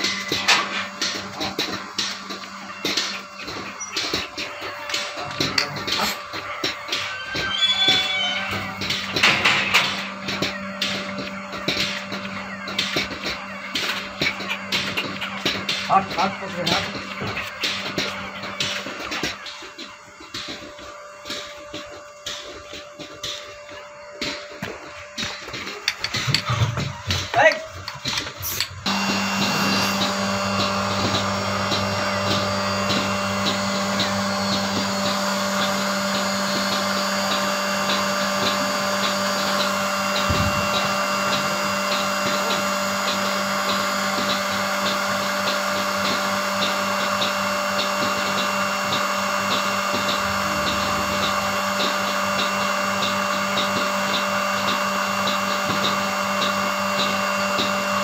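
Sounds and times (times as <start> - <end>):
vacuum pump hum: 0.0 - 58.0.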